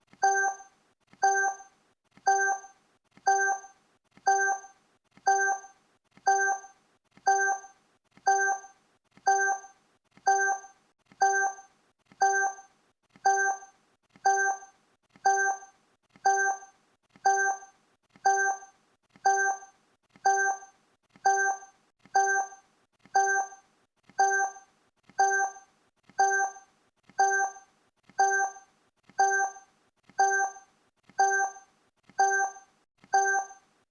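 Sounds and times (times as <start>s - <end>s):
timer blips: 0.1s - 33.7s.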